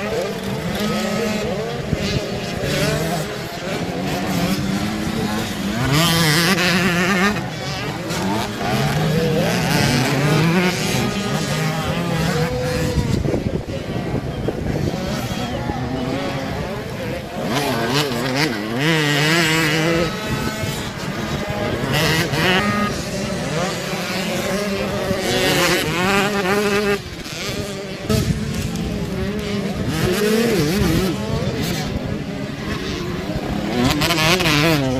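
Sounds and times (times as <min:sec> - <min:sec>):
dirt bike engines revving: 0:00.0 - 0:34.9.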